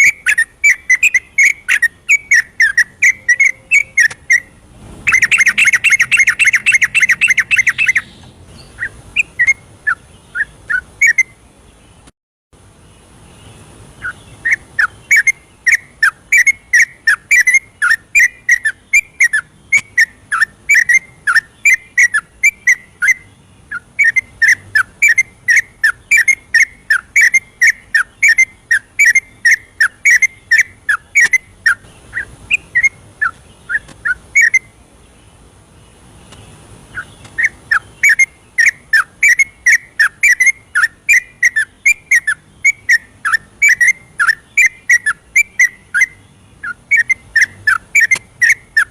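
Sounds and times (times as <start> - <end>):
bird singing whistled notes: 0.0 - 11.6, 13.0 - 34.8, 36.3 - 48.9.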